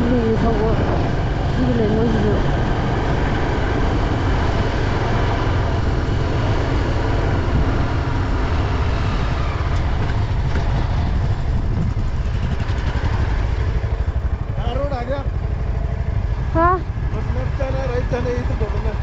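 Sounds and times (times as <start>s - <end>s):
road noise on rough track: 0.0s - 19.0s
vehicle engine rumble: 0.0s - 19.0s.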